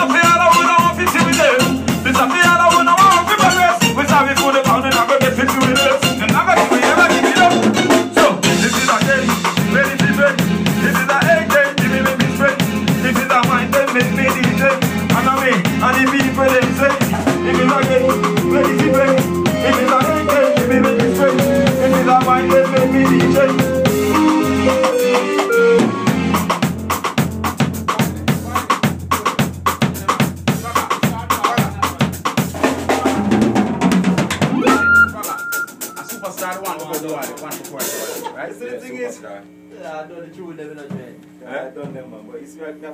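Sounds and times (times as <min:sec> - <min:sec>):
live reggae band playing: 0:00.0 - 0:38.4.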